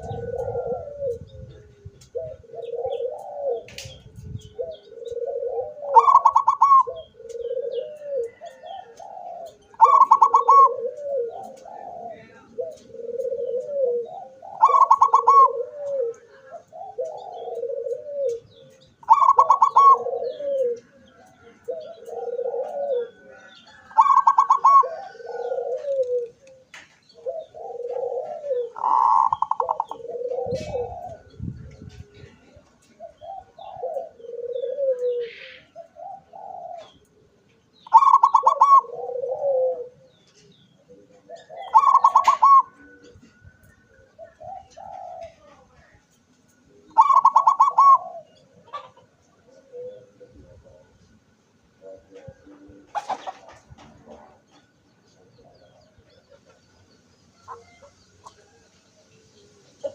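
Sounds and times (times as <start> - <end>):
zebra dove cooing: 0.0 - 58.7, 59.4 - 59.9.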